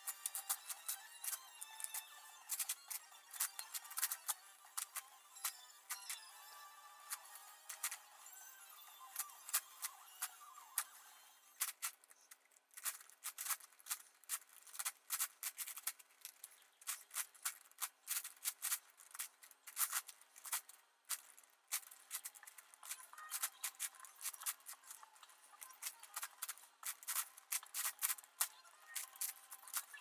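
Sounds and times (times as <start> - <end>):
puzzle cube clicking: 0.0 - 6.3, 7.0 - 8.1, 11.6 - 30.0.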